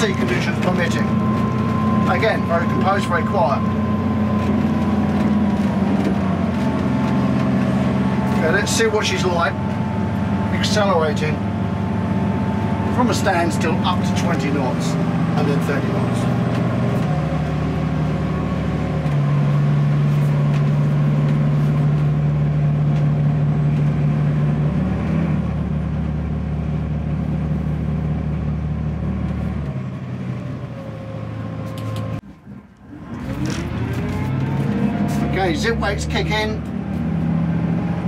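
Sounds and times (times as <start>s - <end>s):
boat diesel engine running: 0.0s - 38.0s.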